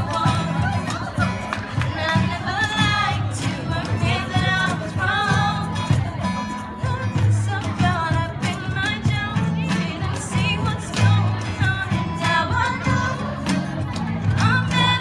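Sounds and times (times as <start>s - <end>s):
strummed acoustic guitars: 0.0s - 15.0s
women singing together: 0.0s - 15.0s.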